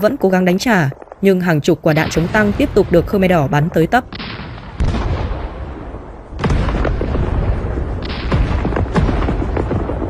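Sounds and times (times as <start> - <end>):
sharp cracks: 0.0 - 5.6, 6.4 - 10.0
explosion blasts: 0.0 - 10.0.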